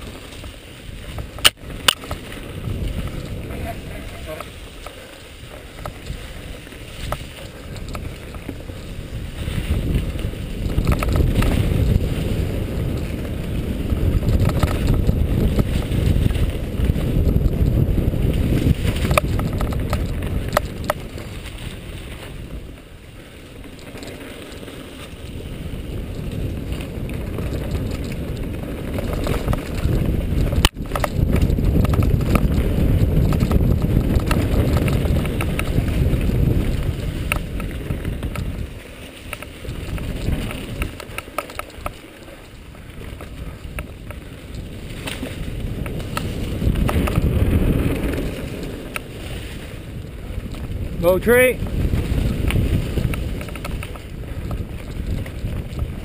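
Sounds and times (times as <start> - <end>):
bike rattling over bumps: 0.0 - 56.0
tyres rolling over dry leaves: 0.0 - 56.0
wind buffeting microphone: 0.0 - 56.0.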